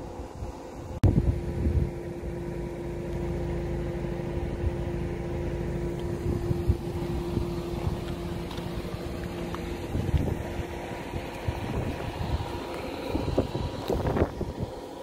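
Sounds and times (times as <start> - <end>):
steady hum: 0.0 - 15.0
wind buffeting microphone: 0.3 - 3.4, 5.8 - 15.0.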